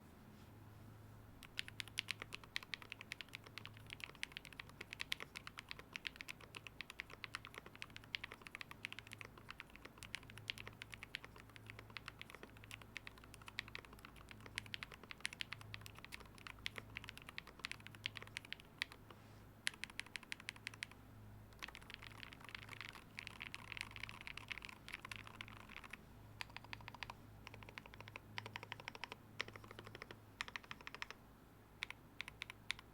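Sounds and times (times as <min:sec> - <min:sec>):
fast keyboard typing: 0:01.4 - 0:31.2, 0:31.8 - 0:32.9.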